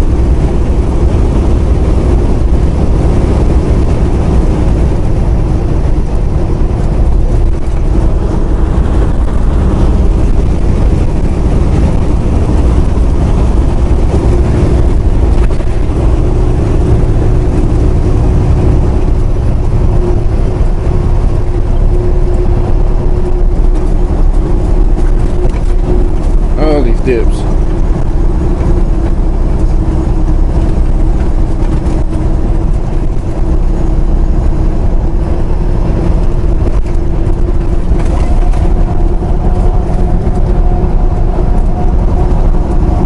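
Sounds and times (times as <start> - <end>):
truck diesel engine droning: 0.0 - 43.0.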